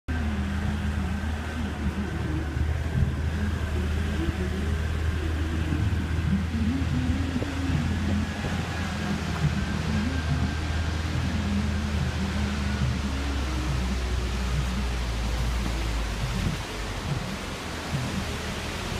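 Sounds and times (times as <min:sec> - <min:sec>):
waterfall roaring: 0:00.1 - 0:18.9.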